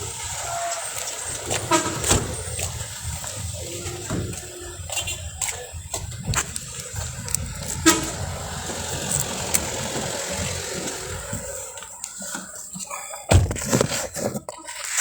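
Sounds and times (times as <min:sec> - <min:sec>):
vehicle engines rumbling: 0:00.0 - 0:14.2.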